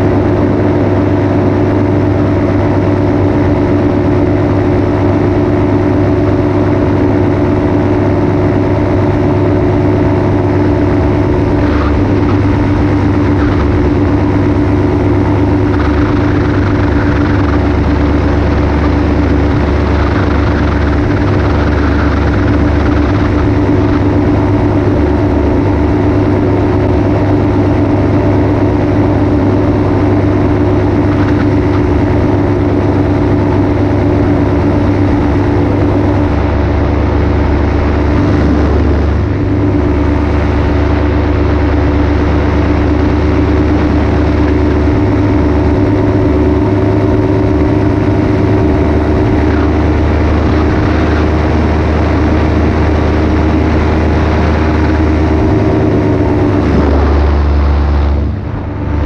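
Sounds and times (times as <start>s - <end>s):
paramotor engine and propeller drone: 0.0s - 59.0s.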